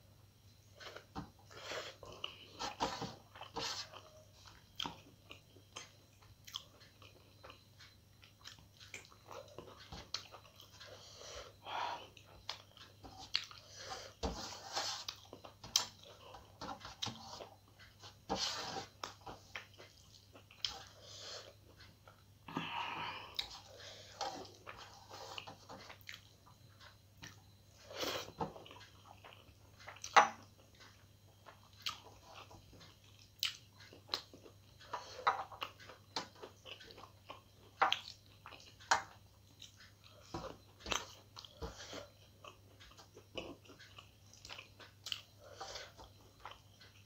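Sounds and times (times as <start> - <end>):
faint low hum: 0.0 - 47.0
person chewing with wet smacking: 0.8 - 14.2, 15.0 - 18.0, 18.9 - 22.2, 22.8 - 47.0.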